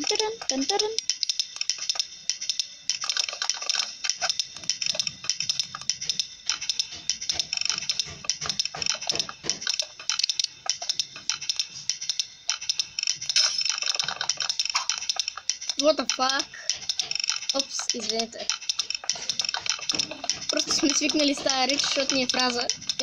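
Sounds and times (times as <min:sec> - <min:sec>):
rapid clicking: 0:00.0 - 0:23.0.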